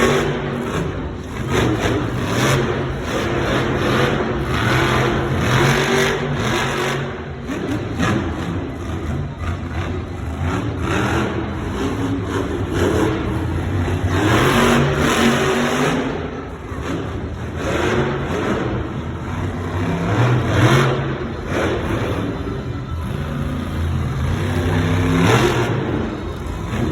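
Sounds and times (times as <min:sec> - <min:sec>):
monster truck engine revving: 0:00.0 - 0:26.9.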